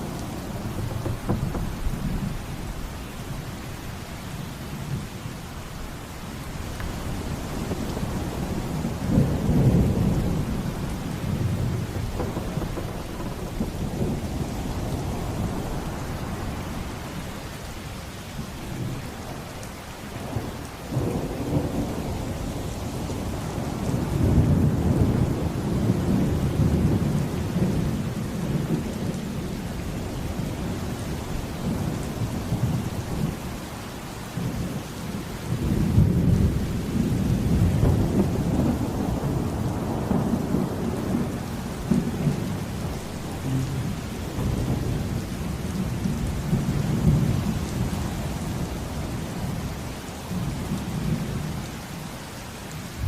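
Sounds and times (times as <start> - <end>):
rolling thunder: 0.0 - 3.0, 6.9 - 17.2, 20.2 - 33.6, 35.5 - 51.6
heavy rain: 0.0 - 53.0.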